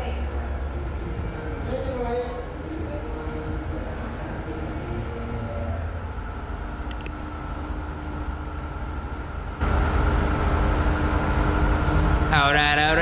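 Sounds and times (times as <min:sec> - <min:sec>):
machine rumbling and humming: 0:00.0 - 0:13.0.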